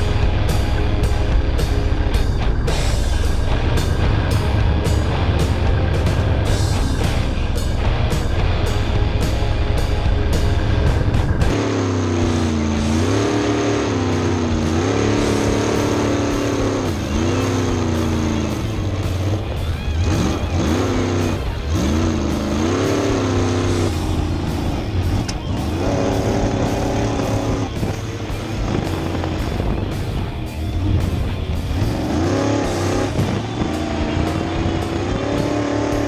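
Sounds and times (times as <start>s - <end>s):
jet boat engine revving: 0.0s - 36.0s.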